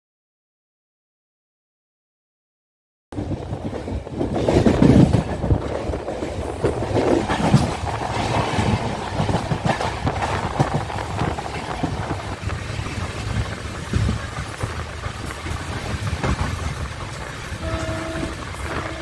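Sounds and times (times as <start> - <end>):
train wheels rumbling on track: 3.1 - 19.0
train clattering over rail joints: 3.2 - 19.0.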